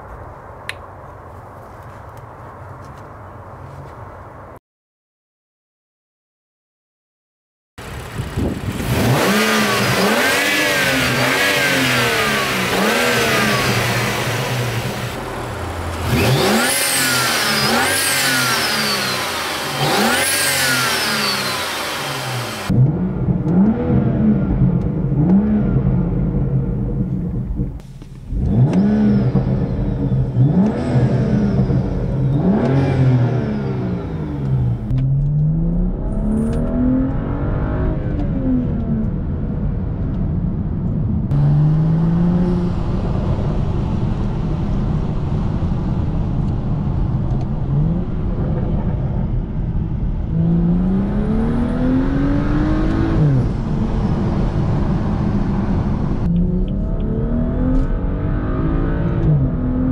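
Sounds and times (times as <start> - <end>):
car engine revving: 7.8 - 59.9
car engine under load in cabin: 7.8 - 59.9.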